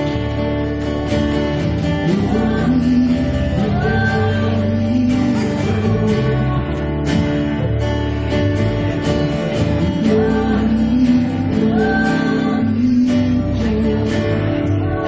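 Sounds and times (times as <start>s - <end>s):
bass chords: 0.0s - 15.0s
keyboard chords: 0.0s - 15.0s
strummed acoustic guitar: 0.0s - 15.0s.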